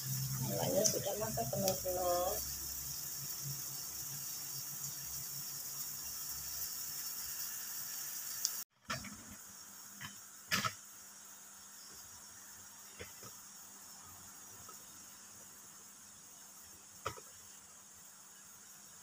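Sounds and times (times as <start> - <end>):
clams sizzling in a wok: 0.0 - 19.0.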